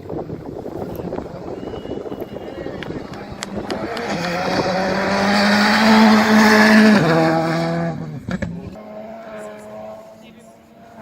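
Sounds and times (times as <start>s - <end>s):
rally car passing at speed: 0.3s - 11.0s.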